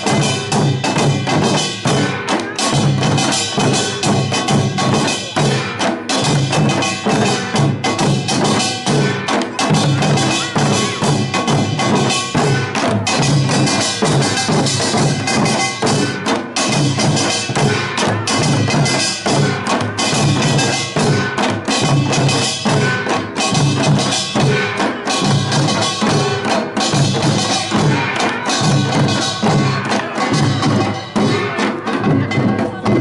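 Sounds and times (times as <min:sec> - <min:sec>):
drums: 0:00.0 - 0:33.0
hand gongs clanging: 0:00.1 - 0:33.0.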